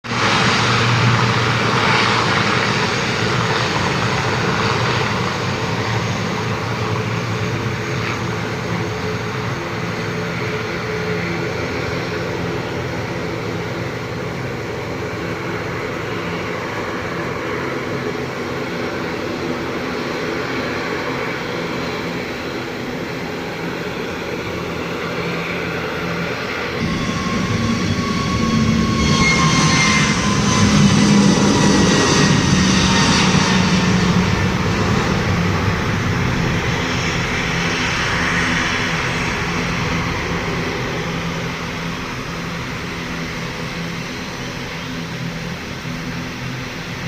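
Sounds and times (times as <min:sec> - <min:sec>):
airliner propellers running: 0:00.0 - 0:47.0.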